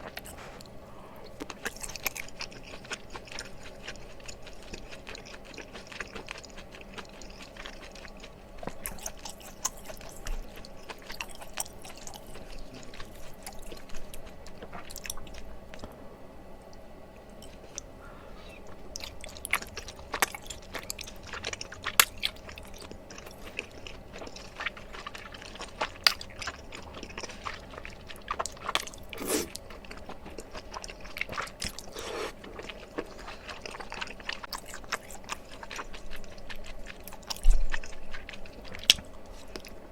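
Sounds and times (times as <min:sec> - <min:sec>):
person chewing: 0:00.0 - 0:16.0, 0:16.7 - 0:39.9.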